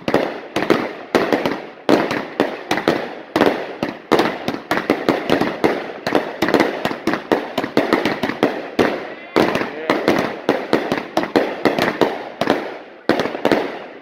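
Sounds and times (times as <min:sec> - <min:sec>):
fireworks banging: 0:00.0 - 0:14.0.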